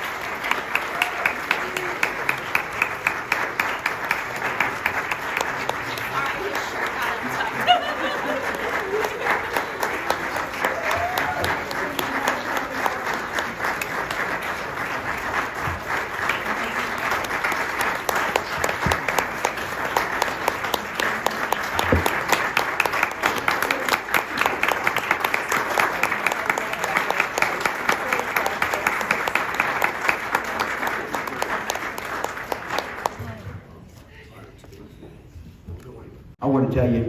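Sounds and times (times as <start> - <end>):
audience applauding: 0.0 - 33.5.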